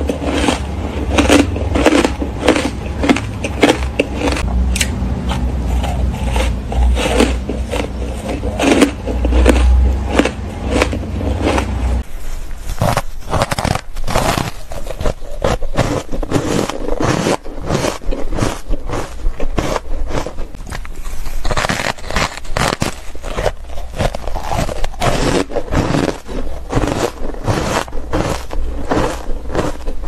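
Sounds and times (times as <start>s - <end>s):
crunching ice: 0.0s - 4.5s, 5.3s - 30.0s.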